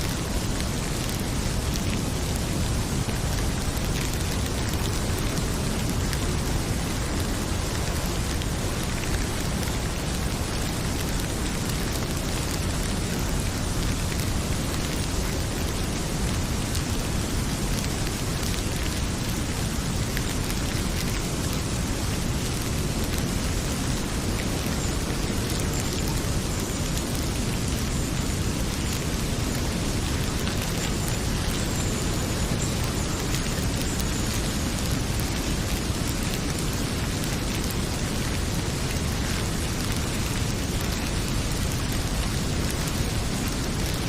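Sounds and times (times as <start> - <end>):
heavy rain pouring: 0.0 - 44.0
wood fire crackling: 0.0 - 44.0.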